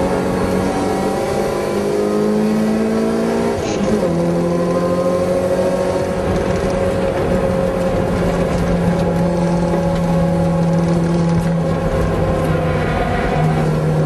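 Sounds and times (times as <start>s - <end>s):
car engine at steady revs: 0.0s - 14.0s.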